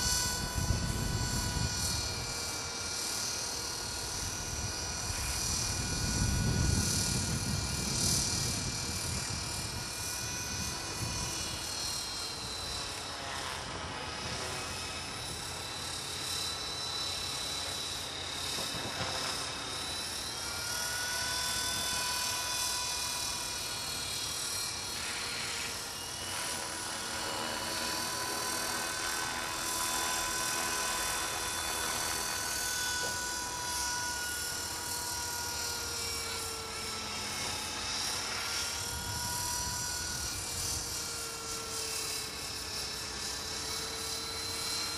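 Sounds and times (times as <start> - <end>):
model helicopter motor whine: 0.0 - 44.9.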